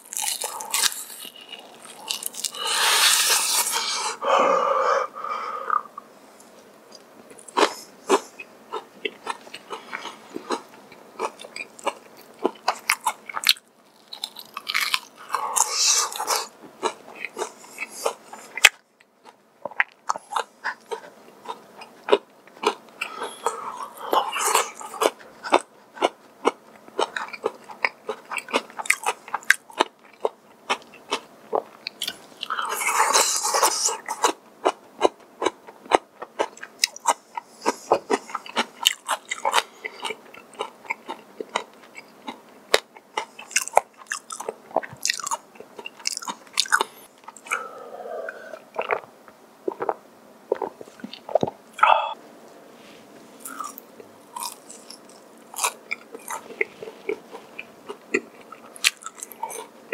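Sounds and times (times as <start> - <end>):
person chewing crunchy food: 0.0 - 4.0, 6.9 - 52.2, 53.3 - 59.9.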